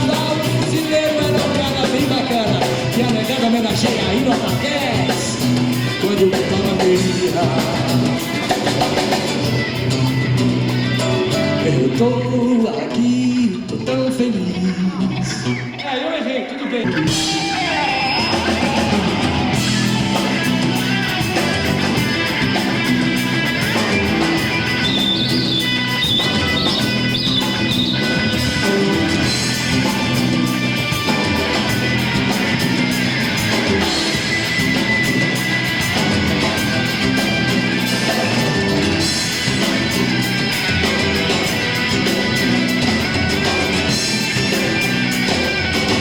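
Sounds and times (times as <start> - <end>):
rock band playing: 0.0 - 46.0.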